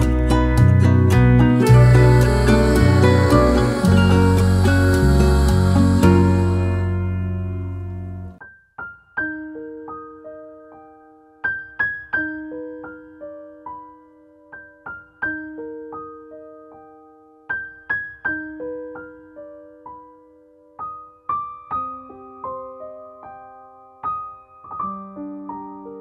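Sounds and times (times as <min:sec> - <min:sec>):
slow soft solo piano: 0:00.0 - 0:26.0.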